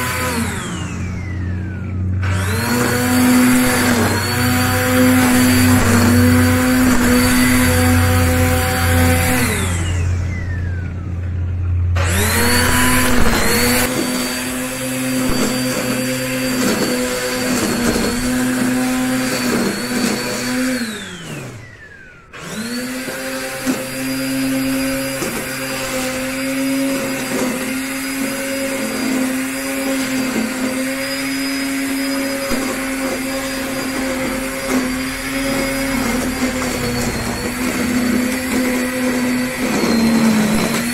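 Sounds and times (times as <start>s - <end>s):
electric string trimmer motor whine: 0.0s - 40.9s.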